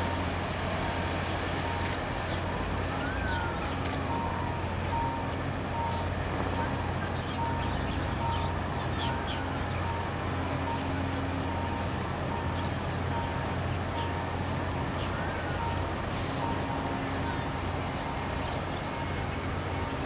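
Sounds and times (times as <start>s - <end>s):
ship engine rumble: 0.0s - 20.0s.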